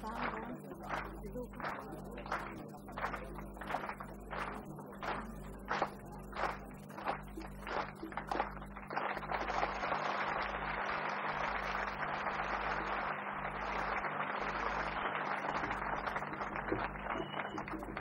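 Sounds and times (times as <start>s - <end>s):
audience applauding: 0.0s - 18.0s
low electrical hum: 0.0s - 18.0s.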